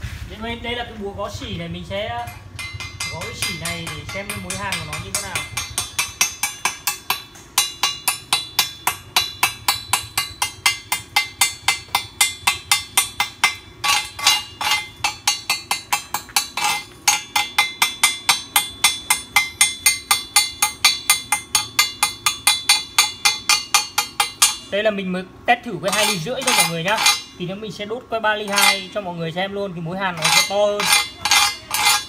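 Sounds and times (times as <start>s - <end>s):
hammer tapping on steel: 2.2s - 24.7s, 25.9s - 27.4s, 28.4s - 29.0s, 30.2s - 32.0s.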